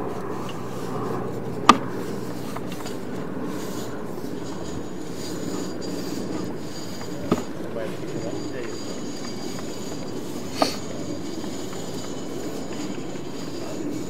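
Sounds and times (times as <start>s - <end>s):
camera scraping inside a pipe: 0.0s - 14.0s.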